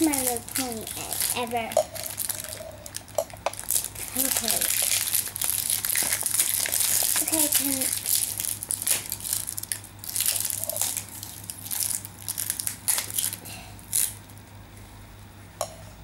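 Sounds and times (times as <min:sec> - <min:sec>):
foil wrapper crinkling and tearing: 0:00.0 - 0:14.4.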